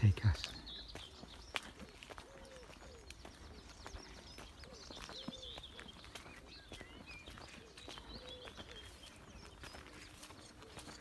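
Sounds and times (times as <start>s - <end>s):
small birds chirping: 0.0s - 11.0s
footsteps clicking: 0.3s - 11.0s.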